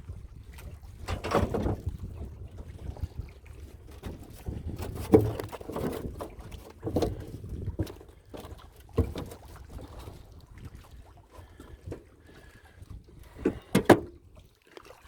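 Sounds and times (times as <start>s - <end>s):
water sloshing against boat hull: 0.0s - 15.0s
knocks and splashes: 0.4s - 15.0s.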